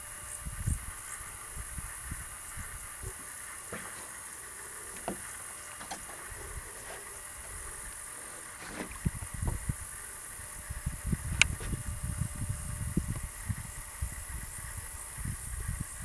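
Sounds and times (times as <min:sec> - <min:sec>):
insects chorus: 0:00.0 - 0:16.0
low rumbling microphone noise: 0:00.0 - 0:16.0.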